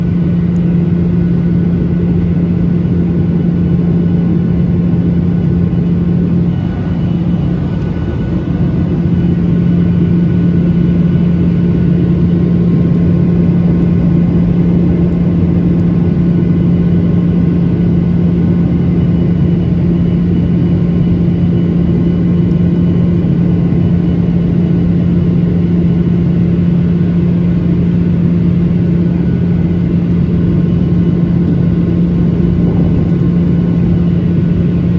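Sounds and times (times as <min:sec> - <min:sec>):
jet engine cabin rumble: 0:00.0 - 0:34.9.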